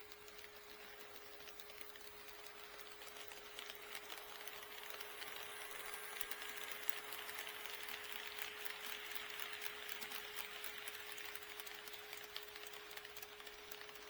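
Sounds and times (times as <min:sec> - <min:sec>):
model train running: 0:00.0 - 0:14.0
rapid clicks: 0:00.0 - 0:14.0.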